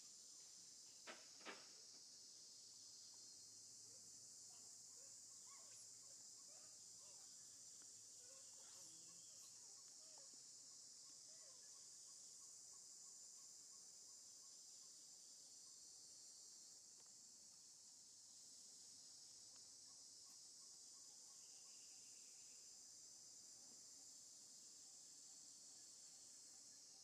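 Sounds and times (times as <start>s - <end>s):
insect chorus drone: 0.0s - 27.0s.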